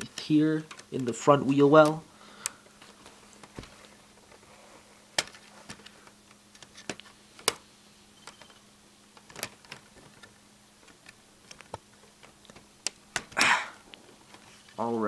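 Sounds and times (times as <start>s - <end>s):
plastic parts clicking: 0.0s - 3.7s, 5.2s - 7.6s, 8.2s - 14.5s.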